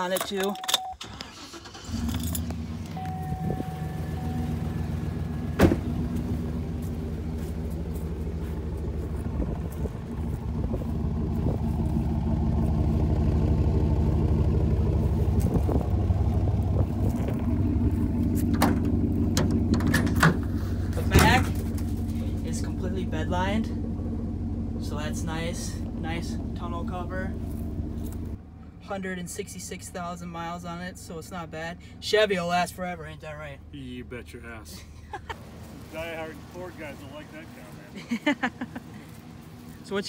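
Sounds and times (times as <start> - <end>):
truck engine idling: 1.0 - 40.0.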